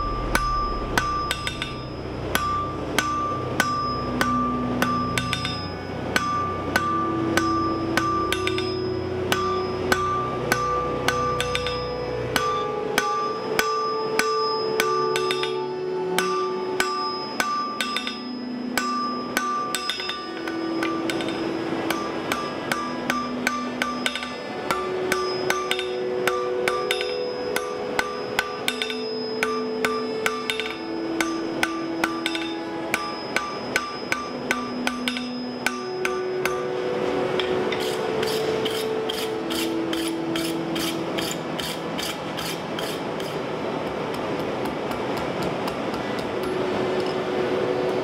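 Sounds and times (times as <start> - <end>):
hammer striking steel on anvil: 0.0 - 47.3
slow background music: 0.0 - 48.0.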